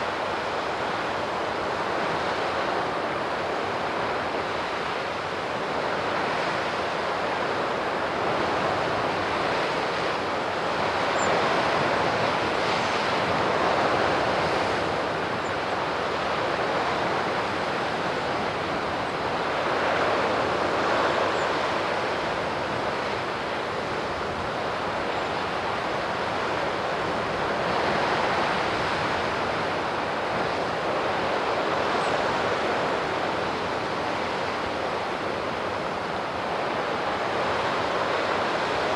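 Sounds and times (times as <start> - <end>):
waves breaking on shore: 0.0 - 38.9.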